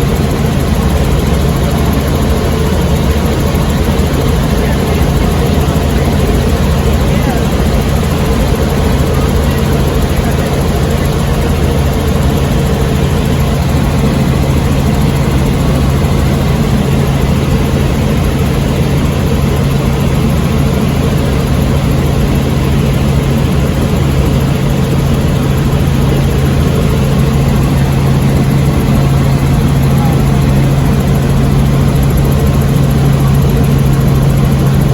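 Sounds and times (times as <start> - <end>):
helicopter engine and rotor drone: 0.0 - 34.9.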